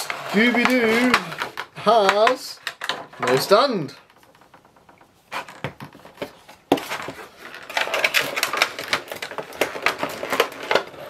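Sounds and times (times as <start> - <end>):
plastic packaging crackling: 0.0 - 4.6, 5.4 - 11.0.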